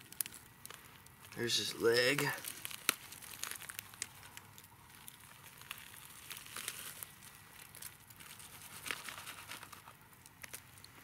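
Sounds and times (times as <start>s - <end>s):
sharp crack: 0.0s - 10.9s
crackling of tearing roasted meat: 0.0s - 11.0s.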